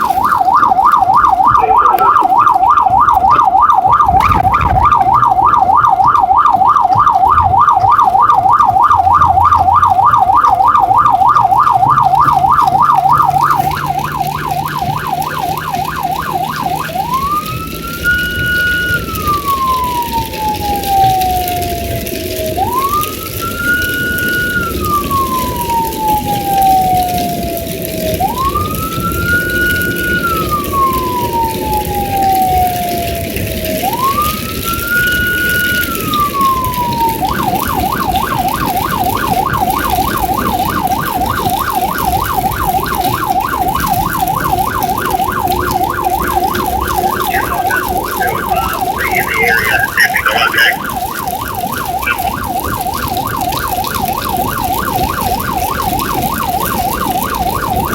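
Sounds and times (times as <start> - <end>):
electronic siren wailing and yelping: 0.0 - 57.9
road and engine noise: 0.0 - 57.9.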